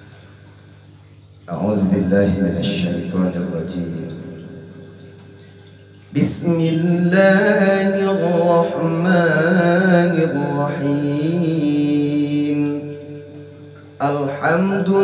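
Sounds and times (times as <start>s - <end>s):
man chanting with echo: 1.5s - 4.8s, 6.1s - 15.0s.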